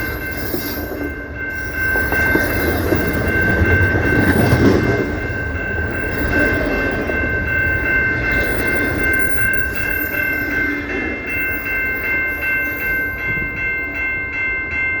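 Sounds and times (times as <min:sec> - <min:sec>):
train cars clattering over rails: 0:00.0 - 0:13.8
steady high-pitched ringing tone: 0:00.0 - 0:15.0.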